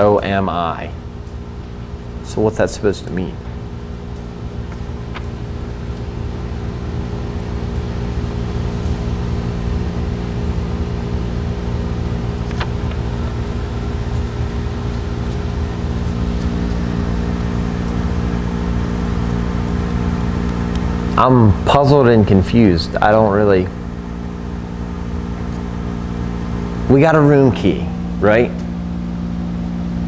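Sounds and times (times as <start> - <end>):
low hum with held tones: 0.0 - 30.0.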